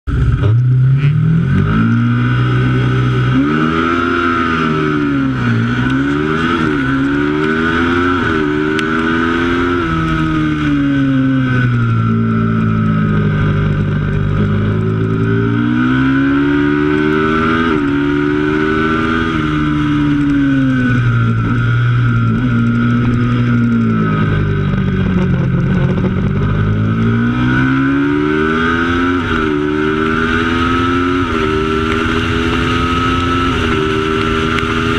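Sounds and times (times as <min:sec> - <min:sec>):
racing motorcycle engine revving: 0:00.0 - 0:34.9.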